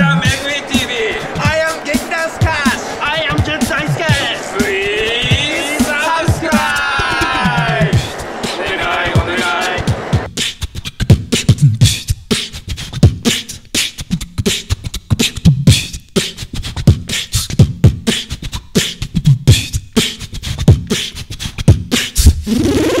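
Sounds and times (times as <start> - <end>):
beatboxing: 0.0 - 23.0.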